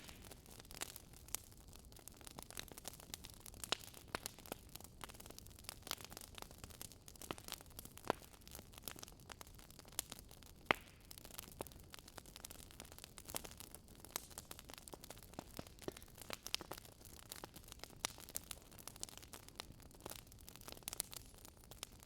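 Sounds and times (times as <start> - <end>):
faint steady hiss: 0.0 - 22.0
wood fire crackling: 0.0 - 22.0.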